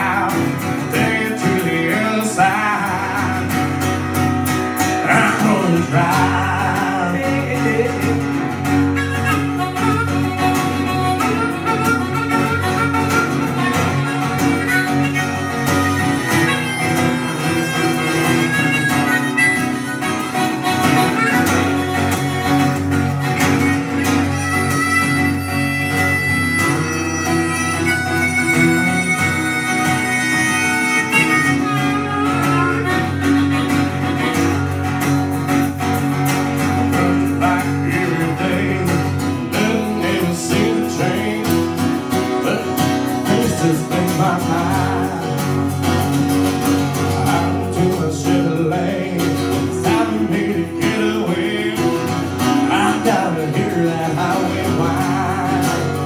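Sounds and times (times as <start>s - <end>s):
acoustic guitar strumming: 0.0s - 56.0s
guitar lead melody: 0.0s - 56.0s.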